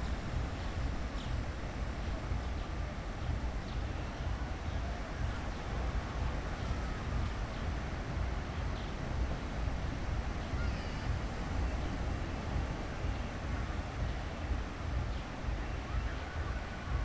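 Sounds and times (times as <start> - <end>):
faint distant voices: 0.0 - 17.0
surf washing: 0.0 - 17.0
wind rumbling on microphone: 0.0 - 17.0.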